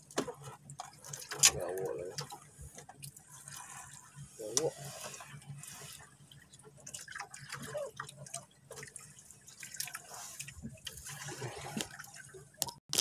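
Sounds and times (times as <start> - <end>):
water dripping and lapping at boat: 0.0 - 13.0.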